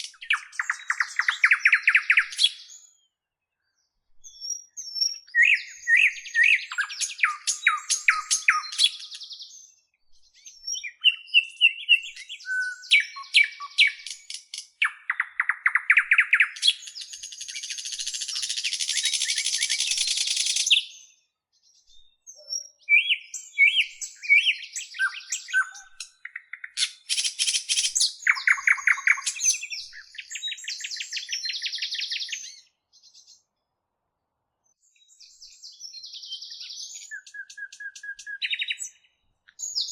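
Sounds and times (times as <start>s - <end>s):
bird singing trills: 0.0s - 3.1s, 4.2s - 21.1s, 21.7s - 33.4s, 34.7s - 39.9s.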